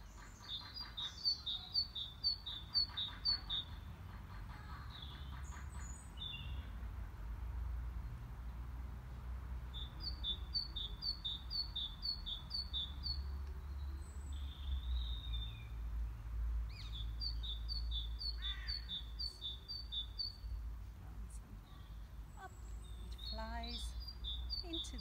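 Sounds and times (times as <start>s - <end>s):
songbird singing: 0.0s - 6.9s, 7.9s - 25.0s.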